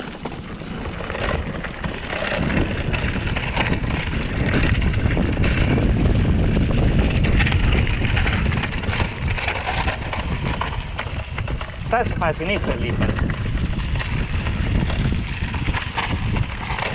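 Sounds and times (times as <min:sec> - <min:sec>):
bike rattling: 0:00.0 - 0:16.9
wind buffeting microphone: 0:00.0 - 0:16.9.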